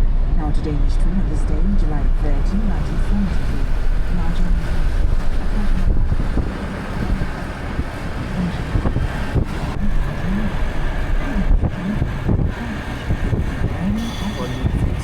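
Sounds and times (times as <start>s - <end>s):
faint voices: 0.0s - 15.0s
low rumble of vehicles: 0.0s - 15.0s.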